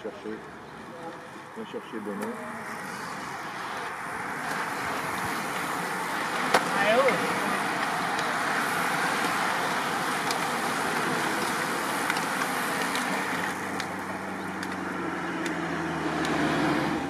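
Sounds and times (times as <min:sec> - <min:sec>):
bicycle tyres rushing: 0:00.8 - 0:17.0.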